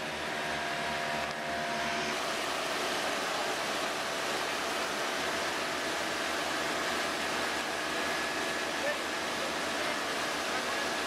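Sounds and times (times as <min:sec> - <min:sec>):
stream rushing over rocks: 0:02.1 - 0:11.0.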